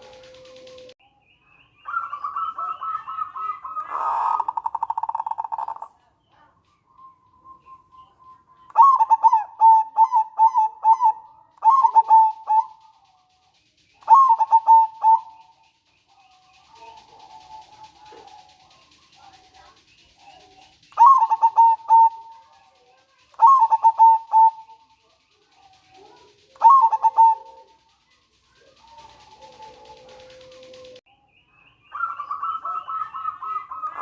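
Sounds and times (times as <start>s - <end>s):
dove trilling and cooing: 0.0s - 1.0s, 1.8s - 31.0s, 31.9s - 34.0s.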